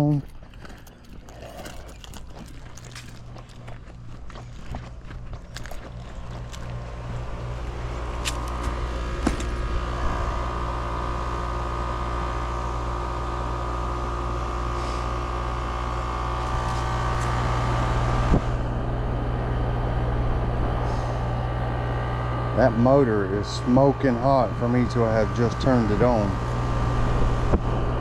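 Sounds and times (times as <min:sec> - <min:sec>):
condenser unit low hum: 0:00.0 - 0:28.0.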